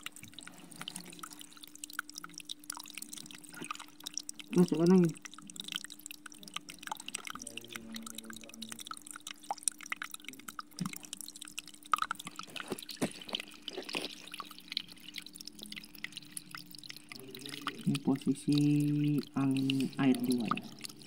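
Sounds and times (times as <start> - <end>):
water bubbling and dripping: 0.0 - 21.0.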